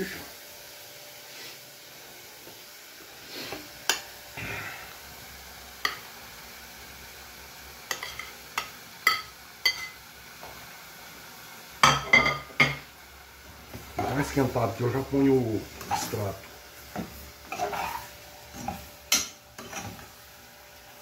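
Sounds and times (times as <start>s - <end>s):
meat sizzling in a pot: 0.0s - 21.0s.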